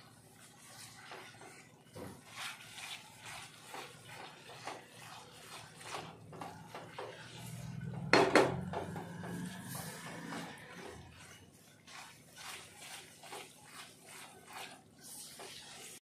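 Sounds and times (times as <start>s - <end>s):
spatula scraping a pan: 0.0s - 16.0s.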